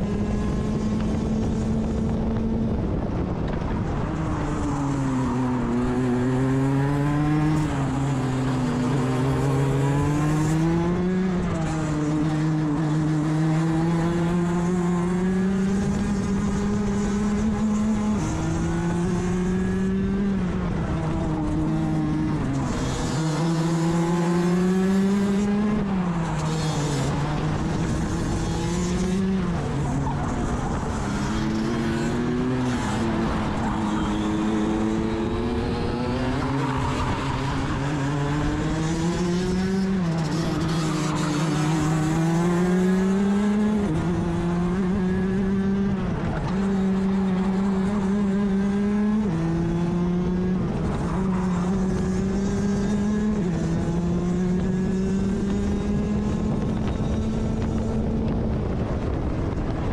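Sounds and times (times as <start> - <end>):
two-stroke kart engine racing: 0.0 - 59.9.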